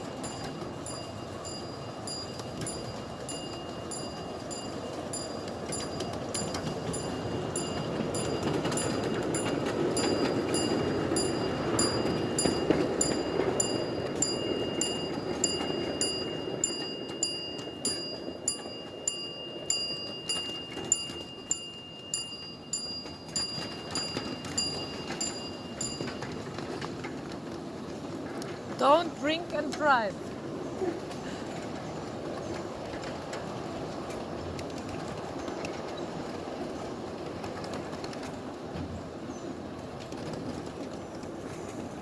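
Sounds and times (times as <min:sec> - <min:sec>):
miniature steam train rumble: 0:00.0 - 0:42.0.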